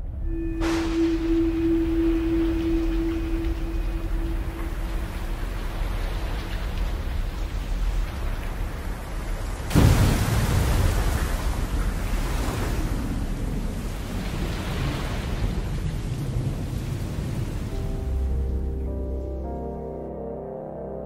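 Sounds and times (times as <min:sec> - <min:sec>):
thunderclap rumbling: 0:00.0 - 0:18.4
steady rain: 0:00.3 - 0:19.4.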